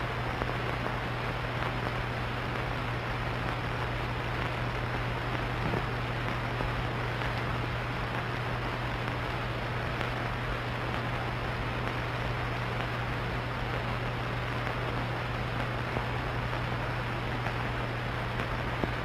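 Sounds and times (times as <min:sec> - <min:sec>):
constant low hum: 0:00.0 - 0:19.0
film soundtrack hiss: 0:00.0 - 0:19.0.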